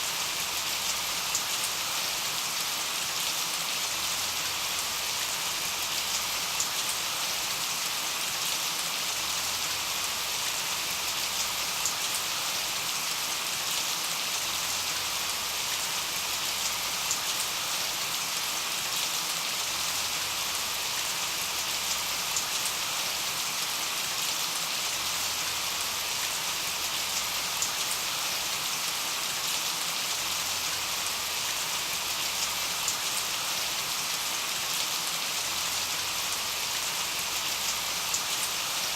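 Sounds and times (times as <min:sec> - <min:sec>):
rain on hard surfaces: 0:00.0 - 0:38.9.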